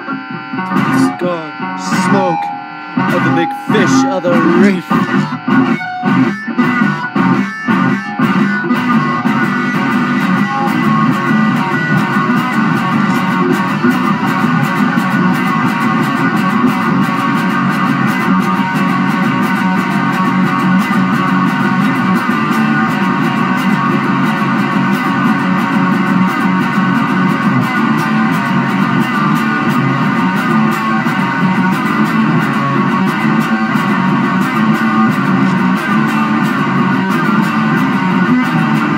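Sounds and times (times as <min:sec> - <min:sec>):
psychedelic rock band playing: 0:00.0 - 0:38.9.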